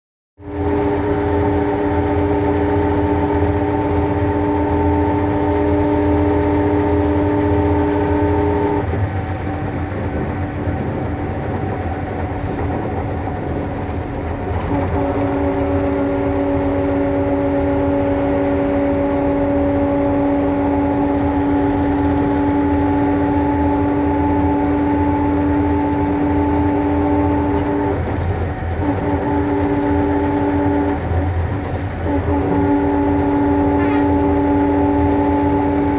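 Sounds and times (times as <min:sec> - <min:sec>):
bus engine and road rumble: 0:00.4 - 0:35.9
multi-tone whine: 0:00.4 - 0:35.9.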